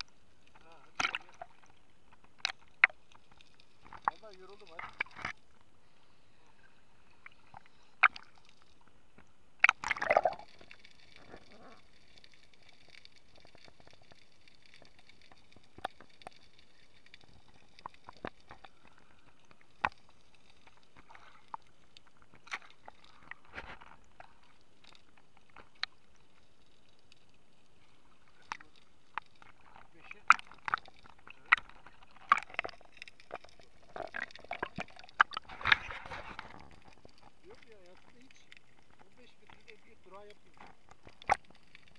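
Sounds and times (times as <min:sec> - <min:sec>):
sharp underwater clicks: 0:00.0 - 0:05.4, 0:07.2 - 0:27.4, 0:28.3 - 0:41.9
water gurgling: 0:00.0 - 0:41.9.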